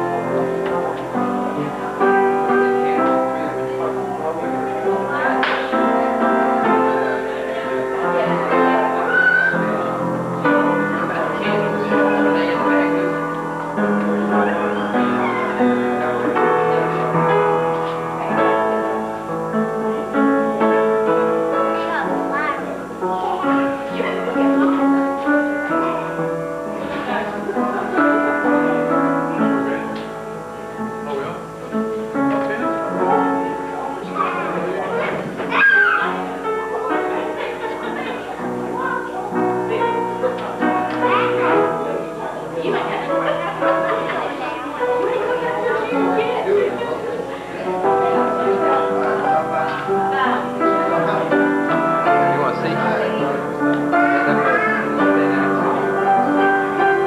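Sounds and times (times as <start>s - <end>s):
instrumental music: 0.0s - 57.0s.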